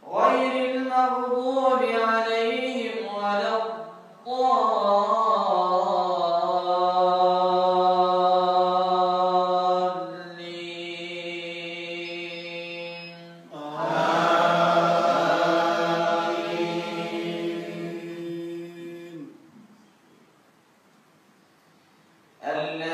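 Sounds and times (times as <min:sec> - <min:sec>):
man chanting recitation: 0:00.0 - 0:19.4, 0:22.4 - 0:22.9.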